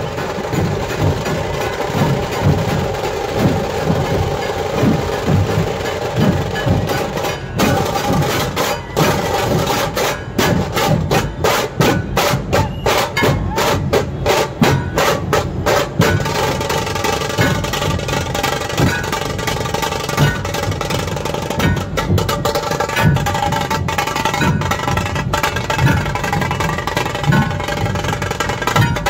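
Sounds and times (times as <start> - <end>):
dhol and tasha drums beating: 0.0 - 29.0.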